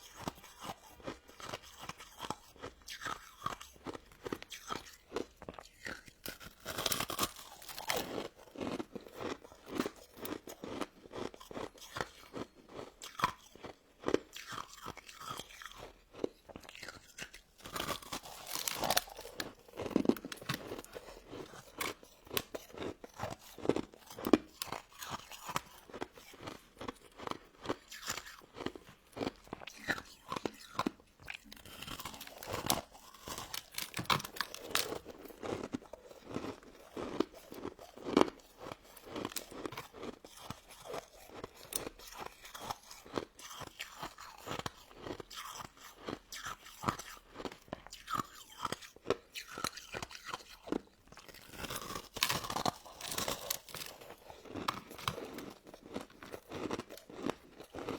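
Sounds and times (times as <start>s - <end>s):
crunching and chewing ice: 0.0s - 57.9s.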